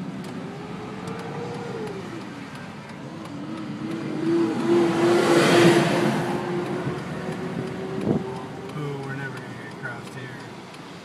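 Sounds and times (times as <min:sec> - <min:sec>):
car road noise inside cabin: 0:00.0 - 0:11.0
engine hum: 0:00.0 - 0:11.0.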